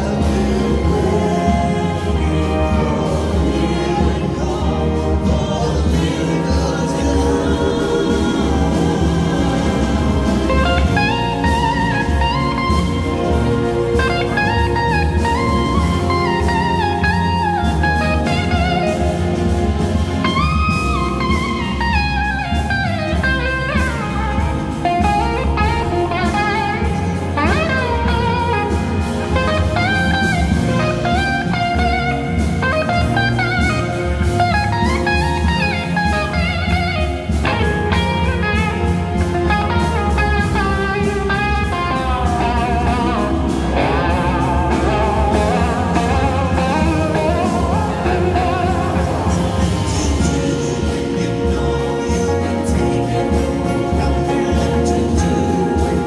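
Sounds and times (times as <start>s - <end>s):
live band with strings: 0.0s - 56.0s
electric slide guitar solo: 6.1s - 52.7s.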